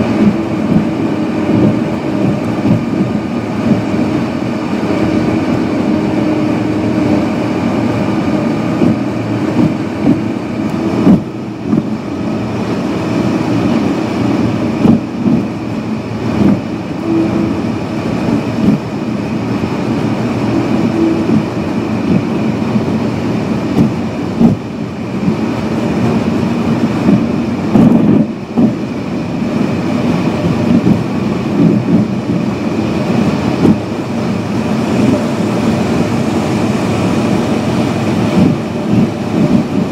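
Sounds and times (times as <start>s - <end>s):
tyre and engine rumble: 0.0s - 39.9s.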